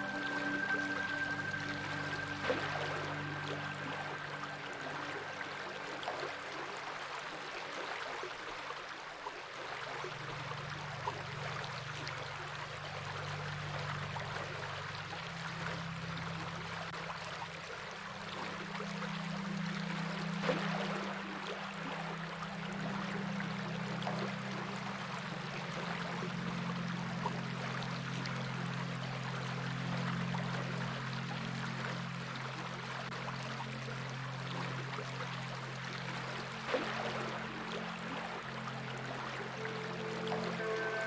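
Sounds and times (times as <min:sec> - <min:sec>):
low musical drone: 0:00.0 - 0:08.3, 0:09.8 - 0:41.0
stream water rushing: 0:00.0 - 0:41.0.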